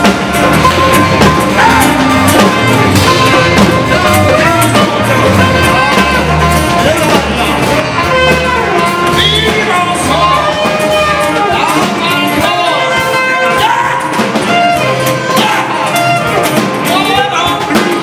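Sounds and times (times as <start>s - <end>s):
rock band music: 0.0s - 18.0s
person singing: 0.4s - 18.0s.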